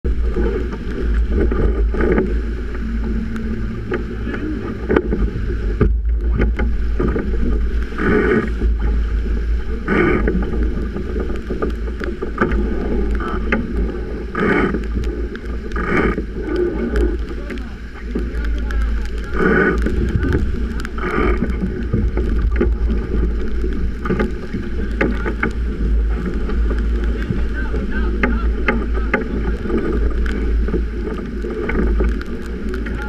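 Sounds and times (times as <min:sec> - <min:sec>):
waves splashing along hull: 0:00.0 - 0:33.0
wind buffeting microphone: 0:00.0 - 0:33.0.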